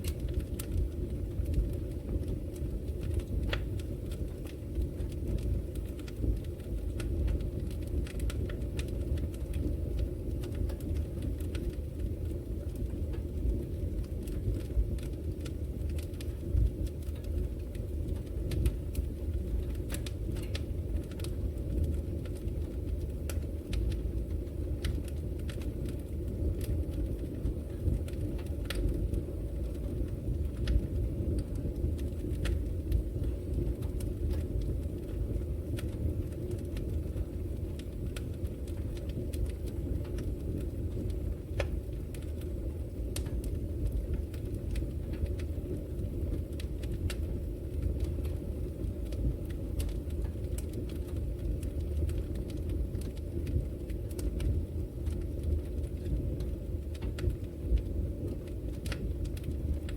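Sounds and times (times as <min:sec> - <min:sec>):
fire burning in a fireplace: 0:00.0 - 0:59.9
fire crackles and pops: 0:00.0 - 0:59.9.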